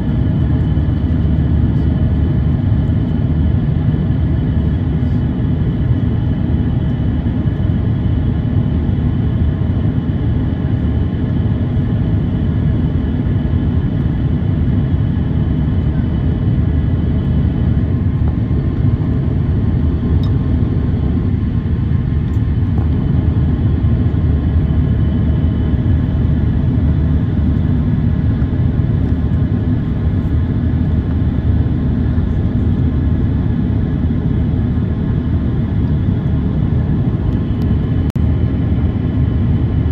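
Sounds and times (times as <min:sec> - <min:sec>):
aircraft engine rumble: 0:00.0 - 0:39.9
airflow over fuselage: 0:00.0 - 0:39.9.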